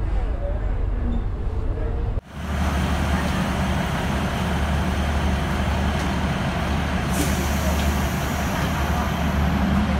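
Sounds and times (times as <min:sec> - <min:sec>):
train rumbling: 0:00.0 - 0:09.9.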